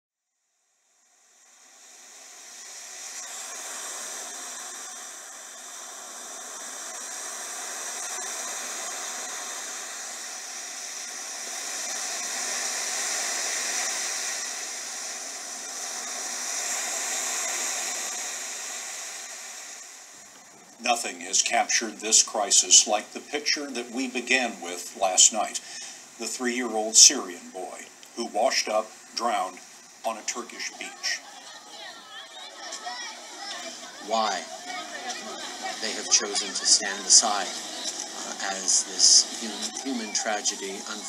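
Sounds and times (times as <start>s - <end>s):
hissing rushing noise: 1.2s - 41.0s.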